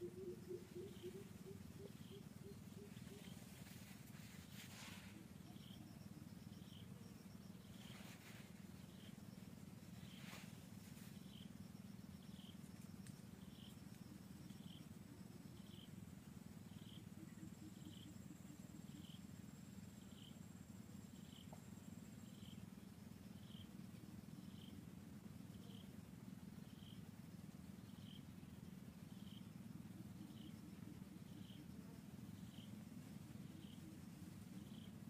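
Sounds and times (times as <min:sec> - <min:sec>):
faint low rumble: 0:00.0 - 0:35.0.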